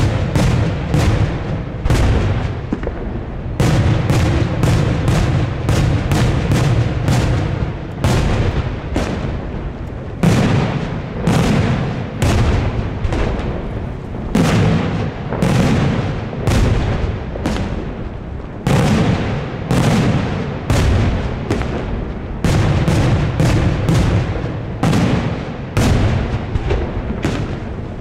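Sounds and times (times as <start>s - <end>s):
fireworks bangs echoing: 0.0s - 28.0s.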